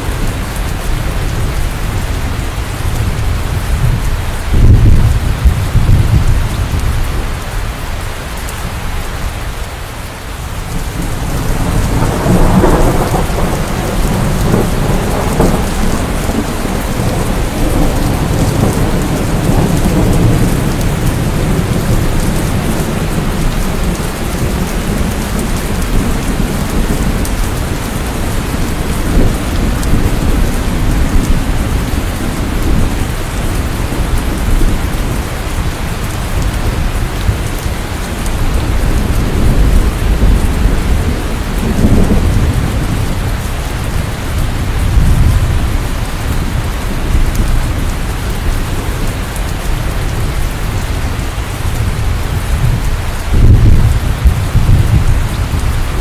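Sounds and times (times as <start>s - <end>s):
thunder rumbling: 0.0s - 7.6s, 10.4s - 56.0s
steady rain: 0.0s - 56.0s.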